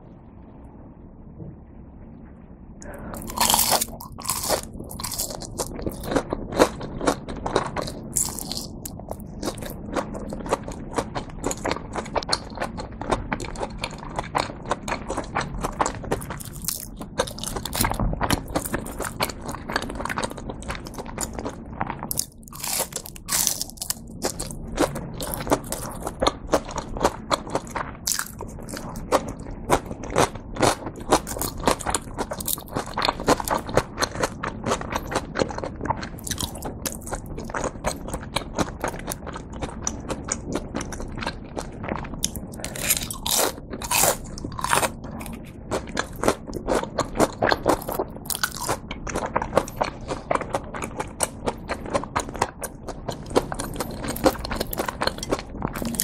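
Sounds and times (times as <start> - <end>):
crunching of crispy food: 3.1 - 56.0.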